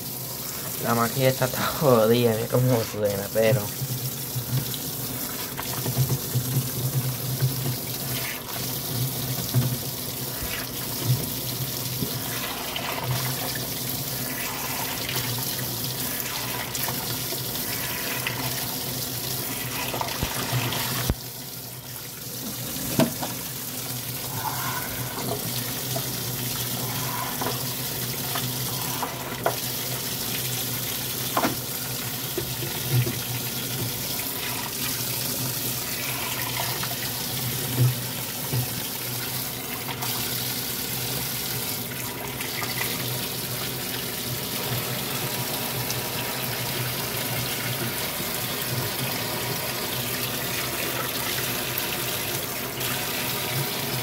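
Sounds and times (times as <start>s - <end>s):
water sloshing in washing machine: 0.0s - 54.0s.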